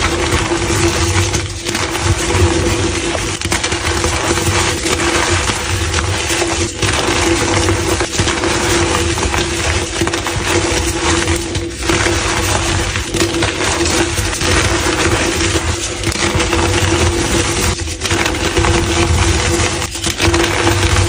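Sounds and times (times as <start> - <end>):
chalk crunching: 0.0 - 21.0.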